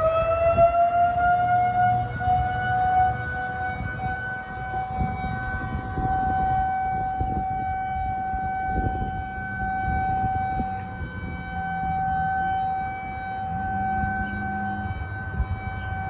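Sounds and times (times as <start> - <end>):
alarm siren wailing: 0.0 - 16.0.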